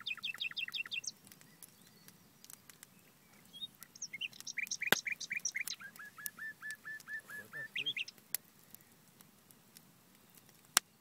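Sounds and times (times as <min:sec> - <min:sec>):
nightingale singing: 0:00.0 - 0:09.0
wood fire crackling: 0:00.0 - 0:11.0.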